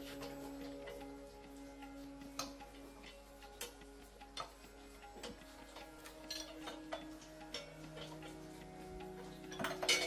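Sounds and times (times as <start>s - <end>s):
background music with held tones: 0.0s - 10.0s.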